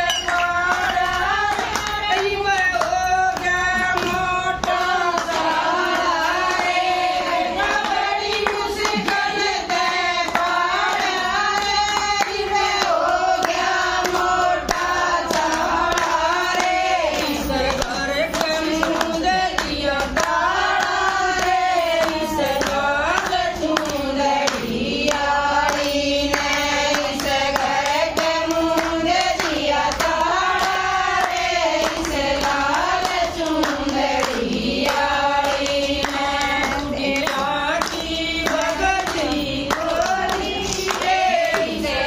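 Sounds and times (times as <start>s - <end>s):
hand claps: 0.0s - 42.0s
women singing together: 0.0s - 42.0s.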